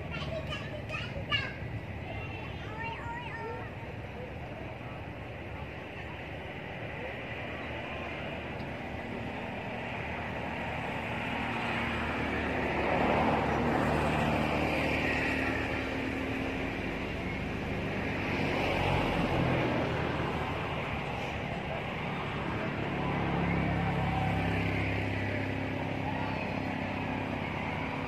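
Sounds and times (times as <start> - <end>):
vehicle engine drone: 0.0 - 28.0.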